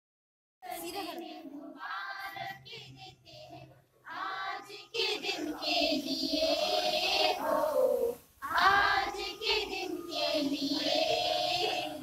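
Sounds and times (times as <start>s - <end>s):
group of voices singing: 0.6s - 12.0s.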